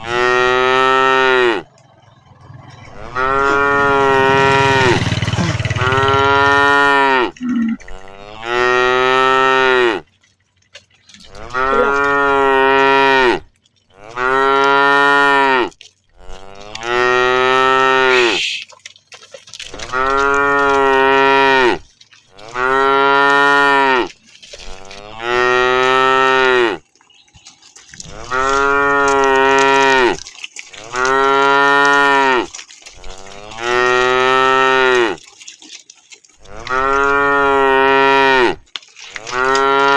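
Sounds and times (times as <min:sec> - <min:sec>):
cows mooing: 0:00.0 - 0:10.1, 0:11.2 - 0:18.6, 0:19.7 - 0:35.5, 0:36.4 - 0:39.9.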